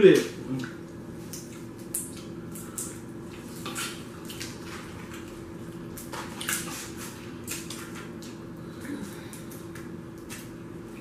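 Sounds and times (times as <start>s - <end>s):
faint steady hum: 0.0s - 11.0s
wet squelches and slurps: 0.5s - 11.0s.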